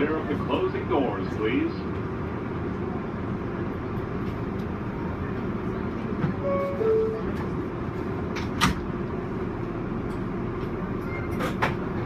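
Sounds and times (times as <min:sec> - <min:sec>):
subway car humming: 0:00.0 - 0:12.0.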